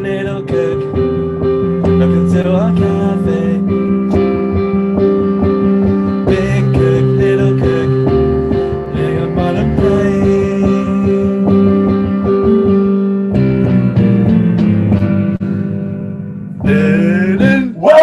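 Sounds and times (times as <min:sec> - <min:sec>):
plucked guitar music with beat: 0:00.0 - 0:17.9.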